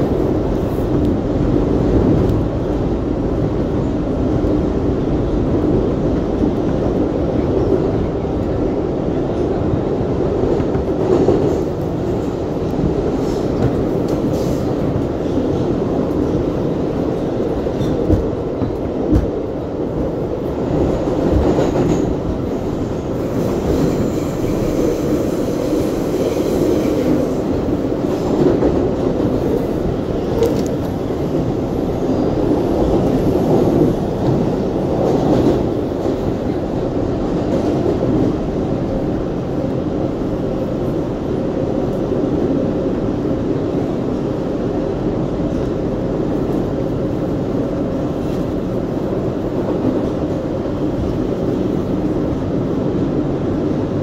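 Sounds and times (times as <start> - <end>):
subway car wheels rumbling: 0.0 - 54.0.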